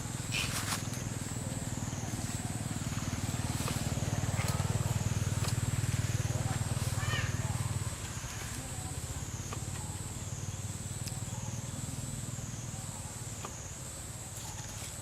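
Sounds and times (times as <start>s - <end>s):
motor engine running: 0.0s - 14.9s.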